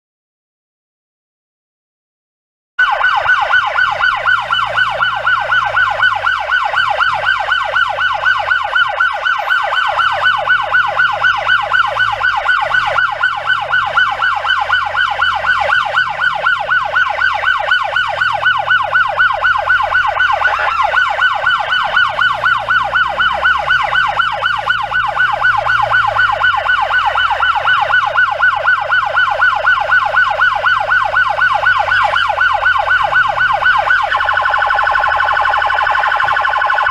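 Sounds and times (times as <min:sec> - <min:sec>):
ambulance siren yelping: 0:02.8 - 0:36.9.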